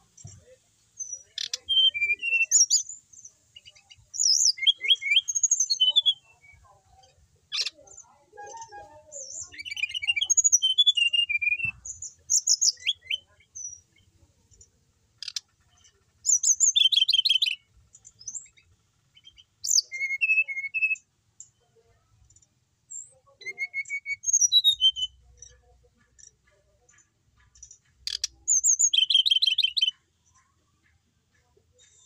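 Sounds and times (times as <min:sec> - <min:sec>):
bird chirps and trills: 0:00.0 - 0:32.0.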